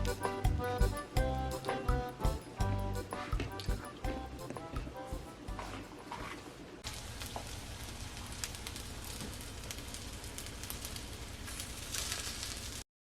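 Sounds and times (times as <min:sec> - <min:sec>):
wood fire crackling: 0:00.0 - 0:12.8.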